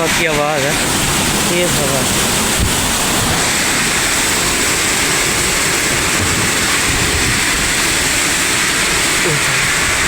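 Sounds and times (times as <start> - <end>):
heavy rain pouring: 0.0 - 10.0
wind buffeting microphone: 0.7 - 9.1.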